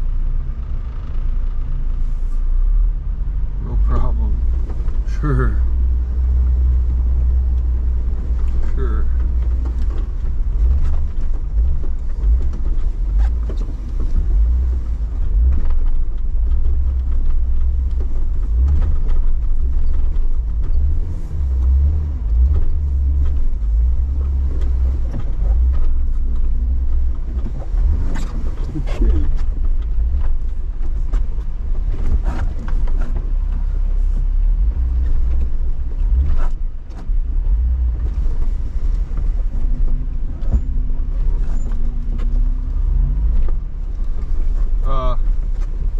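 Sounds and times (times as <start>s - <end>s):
off-road vehicle engine rumble: 0.0s - 45.9s.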